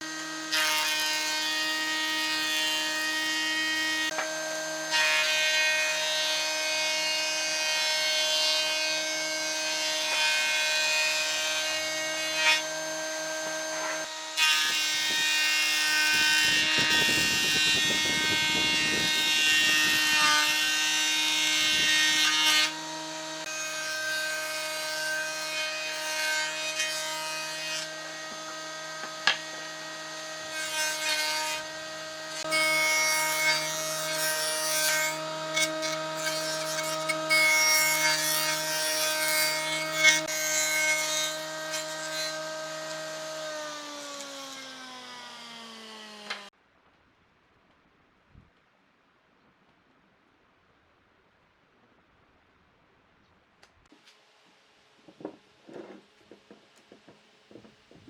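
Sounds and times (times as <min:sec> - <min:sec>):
power tool cutting wood: 0:00.0 - 0:46.5.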